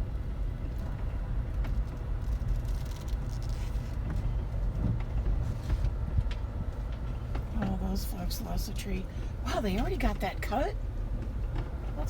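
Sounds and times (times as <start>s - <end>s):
engine and tyre rumble: 0.0s - 12.0s.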